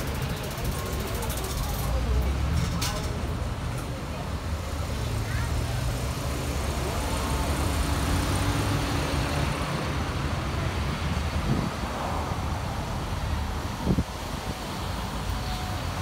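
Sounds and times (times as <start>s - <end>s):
vehicles passing on street: 0.0s - 16.0s.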